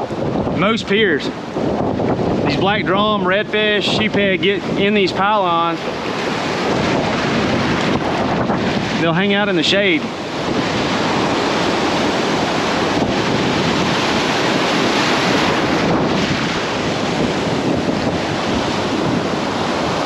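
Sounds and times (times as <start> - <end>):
ocean surf breaking: 0.0 - 20.0
wind noise on microphone: 0.0 - 20.0.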